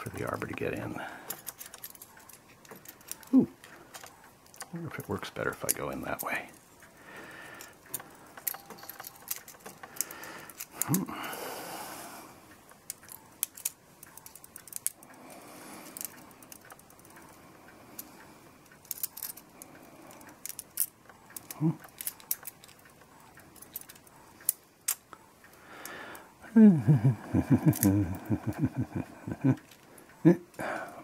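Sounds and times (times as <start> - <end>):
metallic clicks of clock parts: 0.0 - 11.1, 12.4 - 26.5, 27.4 - 31.0.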